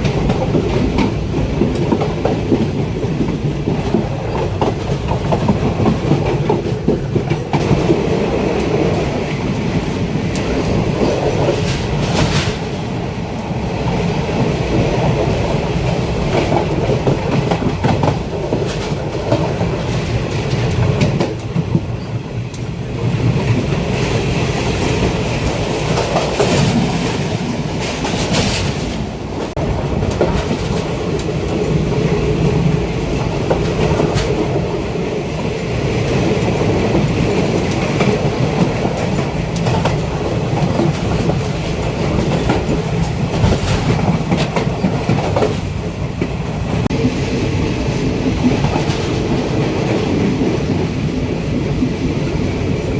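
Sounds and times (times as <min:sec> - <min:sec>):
wheels clicking over rail joints: 0:00.0 - 0:52.8
train rumbling along track: 0:00.0 - 0:52.9.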